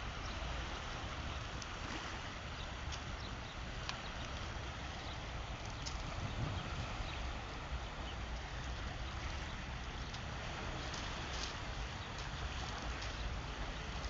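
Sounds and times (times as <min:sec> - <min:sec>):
waves washing: 0:00.0 - 0:14.0.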